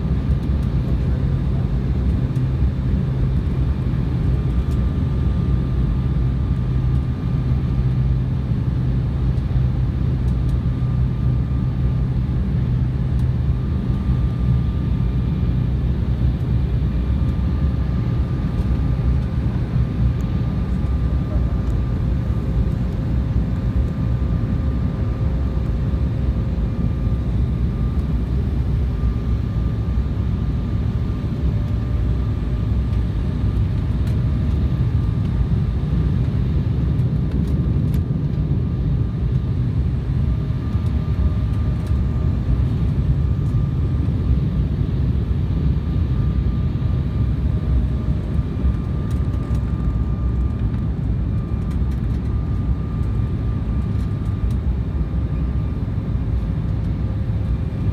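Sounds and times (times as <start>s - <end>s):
airliner cabin engine noise: 0.0s - 57.9s.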